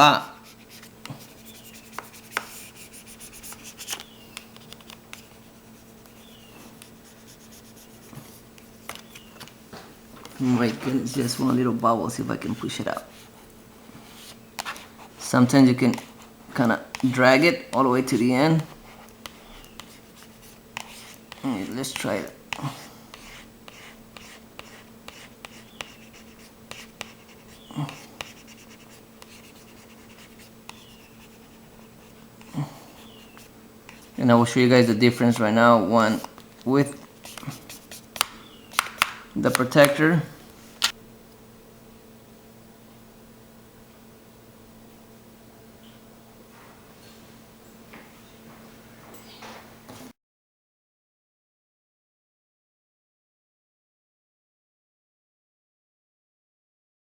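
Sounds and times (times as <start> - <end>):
faint steady hum: 0.0 - 50.1.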